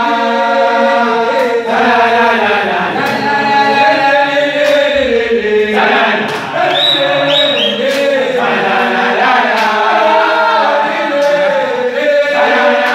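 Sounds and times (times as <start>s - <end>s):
men singing a chant: 0.0s - 12.9s.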